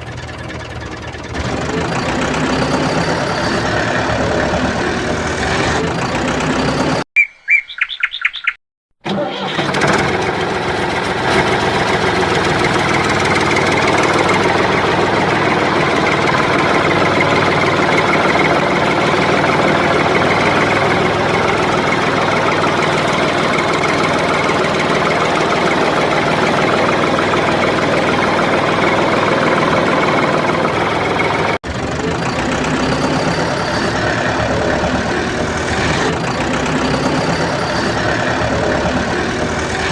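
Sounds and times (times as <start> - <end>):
tractor engine running: 0.0 - 7.1, 9.0 - 39.9.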